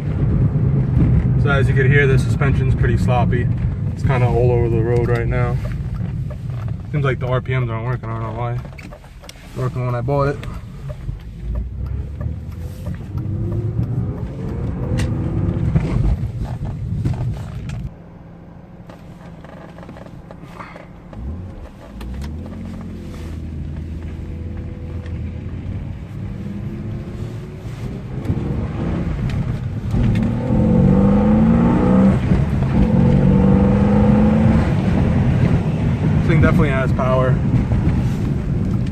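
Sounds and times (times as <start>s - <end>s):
car engine accelerating from inside: 0.0s - 38.9s.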